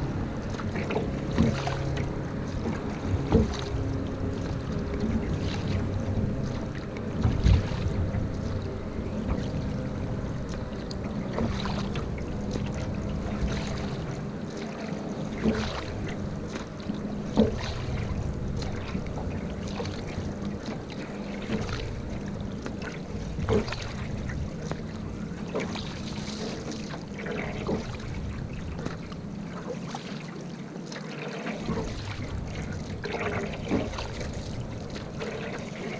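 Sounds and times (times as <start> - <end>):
canoe paddle splashing: 0.0 - 35.9
water lapping against hull: 0.0 - 35.9.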